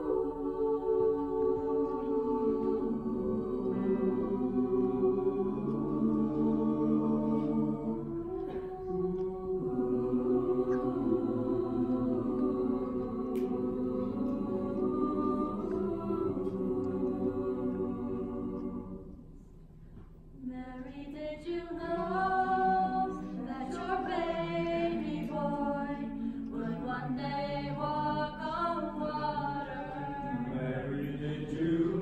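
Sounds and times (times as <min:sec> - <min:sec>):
choir singing a cappella: 0:00.0 - 0:19.4, 0:20.4 - 0:32.0.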